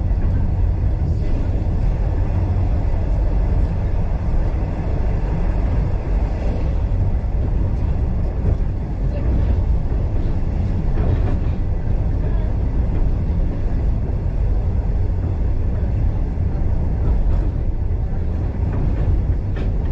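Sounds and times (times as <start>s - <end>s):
train running along track: 0.0s - 19.9s.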